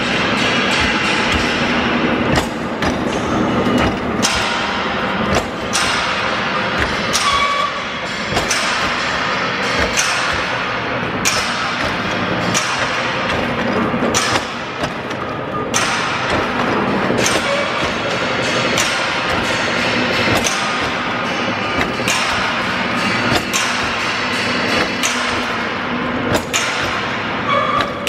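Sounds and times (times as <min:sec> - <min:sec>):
sharp machine knock: 0:00.0 - 0:28.0
steady mechanical clatter: 0:00.0 - 0:28.0.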